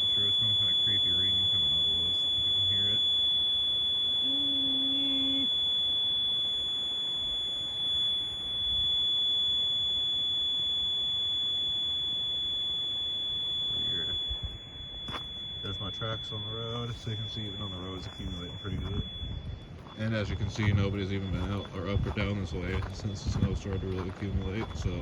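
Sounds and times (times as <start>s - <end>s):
constant hiss: 0.0s - 25.0s
high-pitched electronic tone: 0.0s - 25.0s
low hum: 0.0s - 25.0s.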